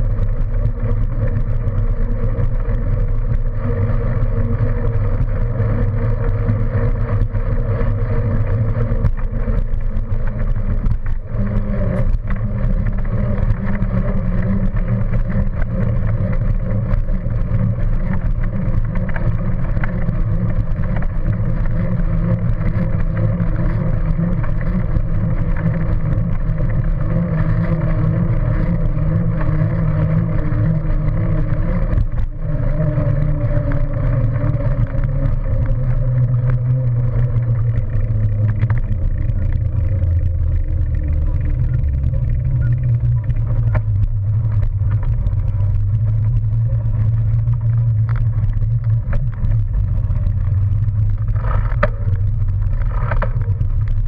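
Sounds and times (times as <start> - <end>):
wheels rolling on pavement: 0.0 - 54.0.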